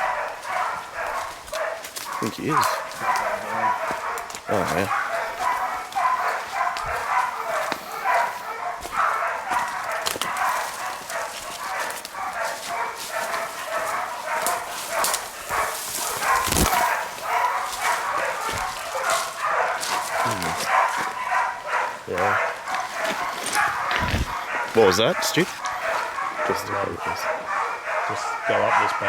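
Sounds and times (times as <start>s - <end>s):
dogs barking: 0.0s - 29.0s.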